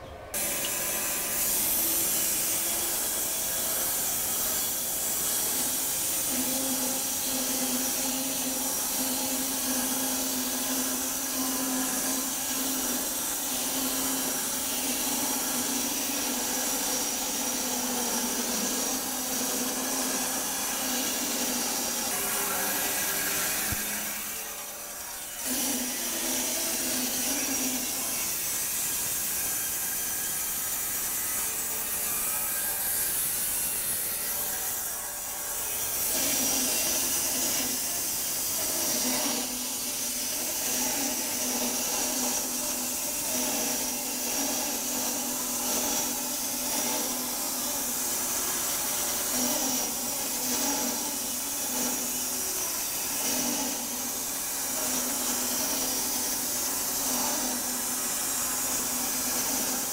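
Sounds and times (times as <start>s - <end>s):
bandsaw mill sawing wood: 0.4s - 59.9s.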